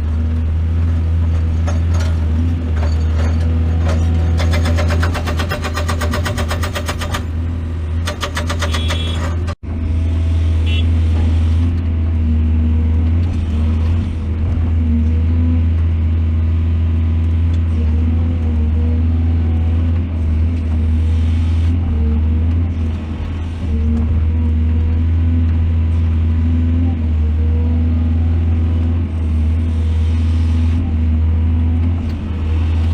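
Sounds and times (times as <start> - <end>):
heavy diesel engine droning: 0.0 - 32.9.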